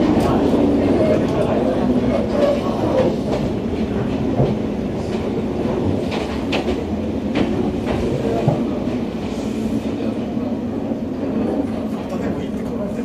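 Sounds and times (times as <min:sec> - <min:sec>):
train ride rumble: 0:00.0 - 0:13.0.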